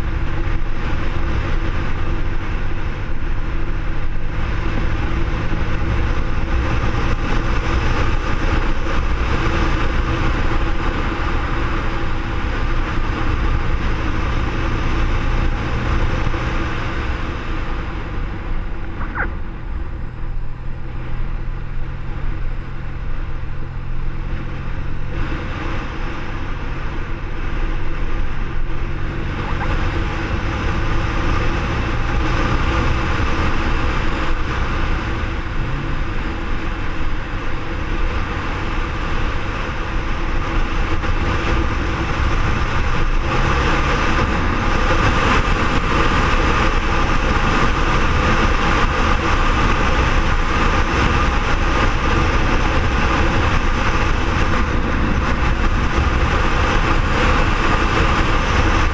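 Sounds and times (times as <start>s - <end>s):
motorcycle engine running: 0.0s - 58.9s
road noise: 0.0s - 58.9s
wind noise: 0.0s - 58.9s.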